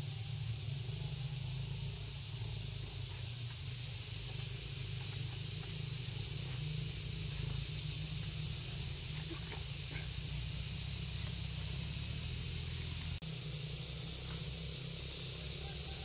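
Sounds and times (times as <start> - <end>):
high hiss: 0.0 - 16.0.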